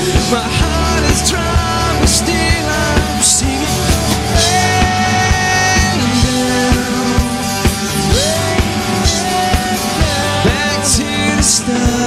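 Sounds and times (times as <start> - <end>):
drum kit beat: 0.0 - 12.0
electric guitar: 0.0 - 12.0
sliding melody line: 0.0 - 12.0.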